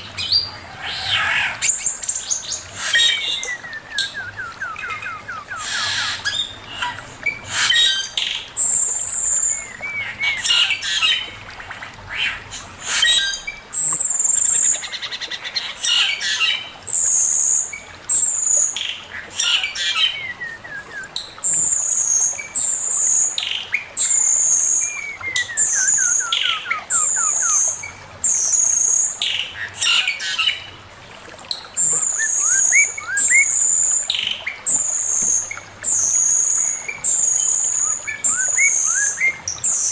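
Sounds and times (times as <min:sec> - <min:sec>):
bird singing and calling: 0:00.0 - 0:11.4, 0:12.1 - 0:39.9.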